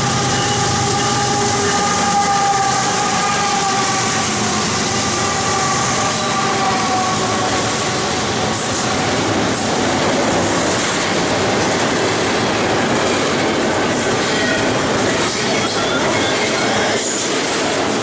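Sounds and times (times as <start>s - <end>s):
faint locomotive whine: 0.0s - 18.0s
train wheels rushing on rail: 0.0s - 18.0s.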